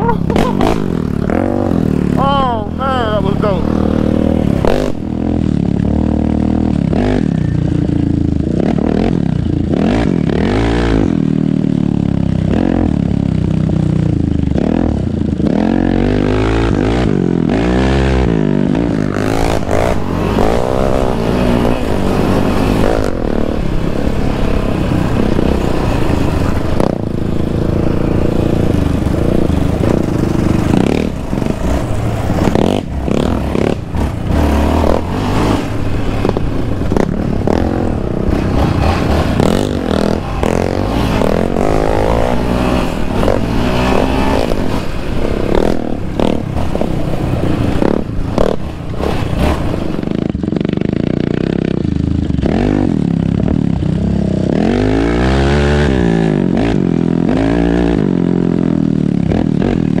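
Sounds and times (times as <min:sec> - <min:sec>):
quad bike engine revving: 0:00.0 - 1:00.0.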